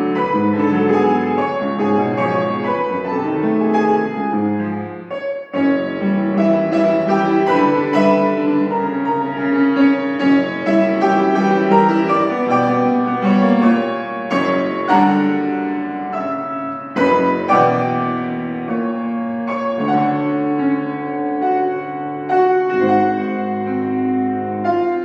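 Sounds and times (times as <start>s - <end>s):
solo piano playing: 0.0s - 25.0s.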